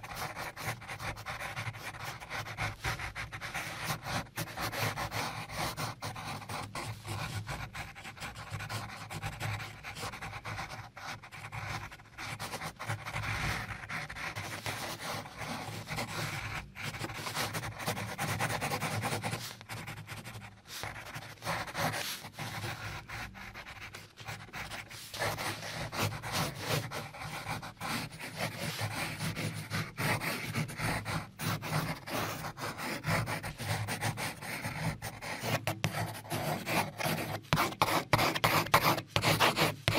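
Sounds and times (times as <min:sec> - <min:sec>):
pencil scratching on paper: 0:00.0 - 0:39.9.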